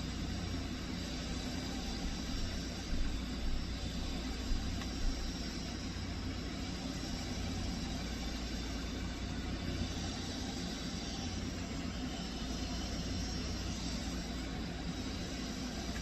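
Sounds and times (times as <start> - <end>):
electric fan whirring: 0.0 - 16.0.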